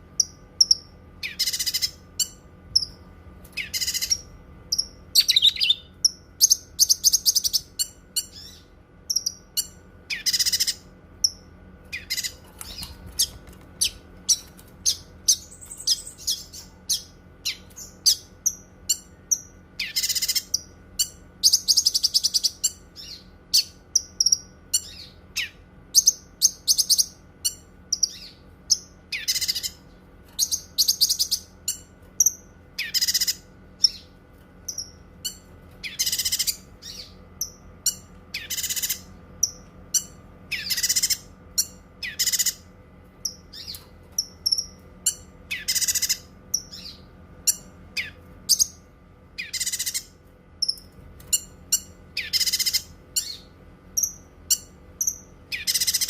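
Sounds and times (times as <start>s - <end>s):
bird trilling: 0.2s - 29.8s, 30.4s - 48.8s, 49.4s - 56.0s
bird chirping: 0.2s - 56.0s.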